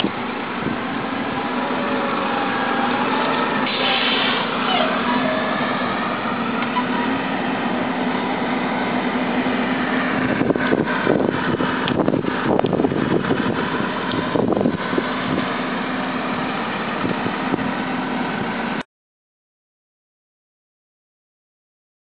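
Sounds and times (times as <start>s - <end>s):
steady mechanical hum: 0.0s - 18.8s.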